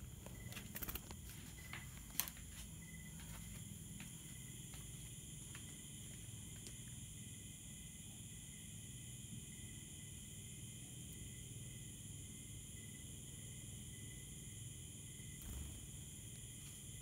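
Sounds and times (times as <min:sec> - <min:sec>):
crickets and insects chirping: 0:00.0 - 0:17.0.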